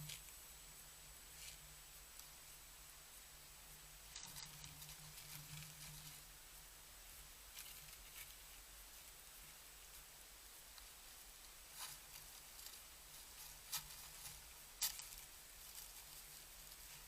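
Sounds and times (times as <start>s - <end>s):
faint steady hum and hiss: 0.0s - 17.0s
soft rustles and ticks: 0.0s - 17.0s.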